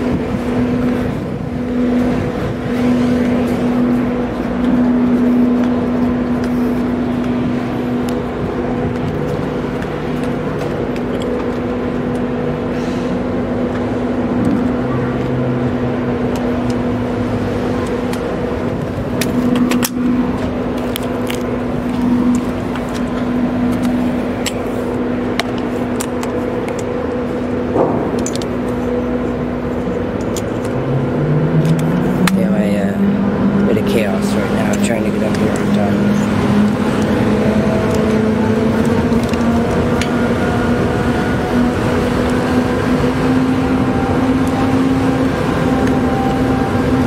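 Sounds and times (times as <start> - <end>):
high machinery tone: 0.0 - 47.0
ship machinery drone: 0.0 - 47.0.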